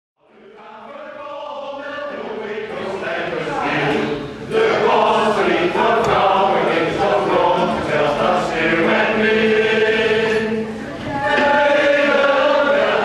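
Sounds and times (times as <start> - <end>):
choir singing long notes: 0.2 - 13.0.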